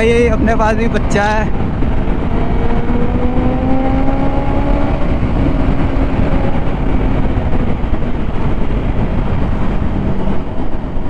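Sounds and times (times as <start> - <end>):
motorcycle engine accelerating: 0.0 - 11.0
wind rush on microphone: 0.0 - 11.0.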